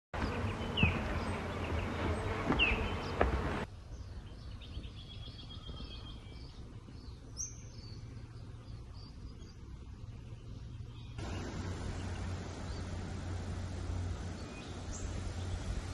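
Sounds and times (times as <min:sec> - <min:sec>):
birds chirping: 0:00.2 - 0:15.9.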